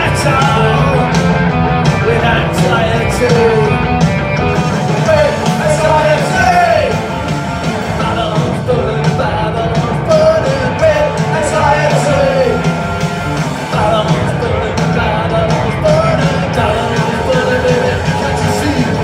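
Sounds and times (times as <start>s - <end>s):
bass guitar: 0.0s - 19.0s
drums: 0.0s - 19.0s
electric guitars: 0.0s - 19.0s
person singing lead vocal: 0.0s - 19.0s.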